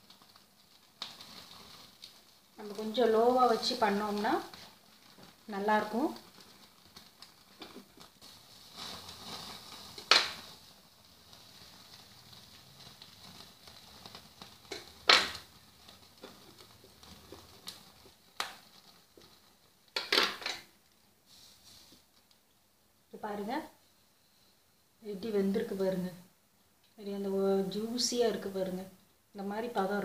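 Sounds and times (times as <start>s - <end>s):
faint hiss: 0.0s - 30.0s.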